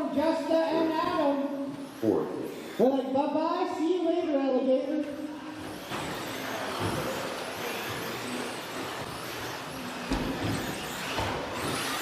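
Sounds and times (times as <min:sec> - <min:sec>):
rc truck motor whine: 0:00.0 - 0:12.0.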